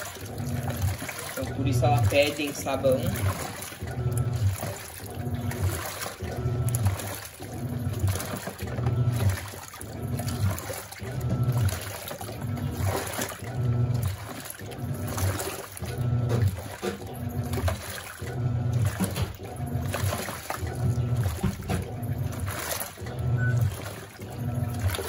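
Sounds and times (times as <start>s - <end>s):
washing machine motor humming: 0.0s - 25.0s
water sloshing and splashing: 0.0s - 25.0s.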